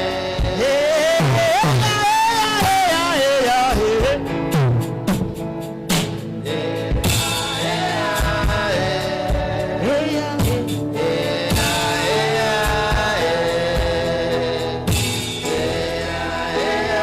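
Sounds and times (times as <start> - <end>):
steady drum beat: 0.0 - 17.0
sustained keyboard chords: 0.0 - 17.0.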